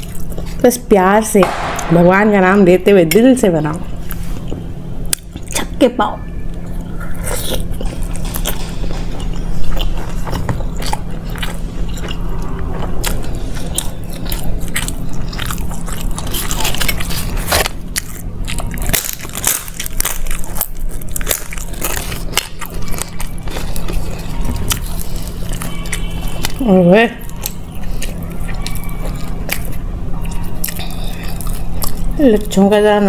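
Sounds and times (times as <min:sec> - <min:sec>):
crunchy chewing: 0:00.0 - 0:01.8, 0:06.4 - 0:33.0
steady low hum: 0:00.0 - 0:33.0.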